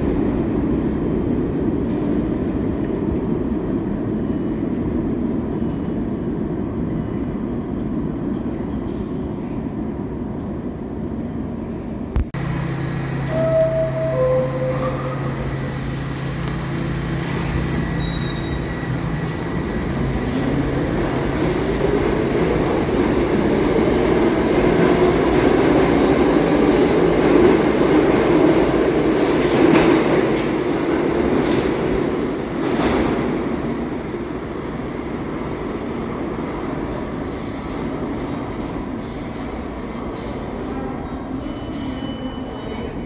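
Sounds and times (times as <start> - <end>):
subway train rumbling on rails: 0.0 - 43.0.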